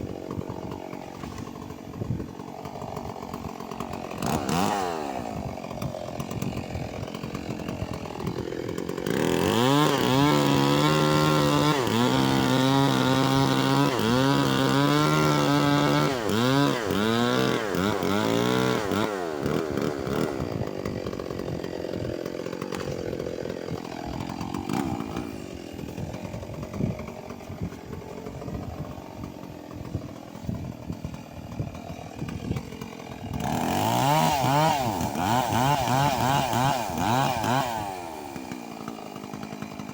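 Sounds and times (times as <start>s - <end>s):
chainsaw cutting through wood: 0.0s - 39.9s.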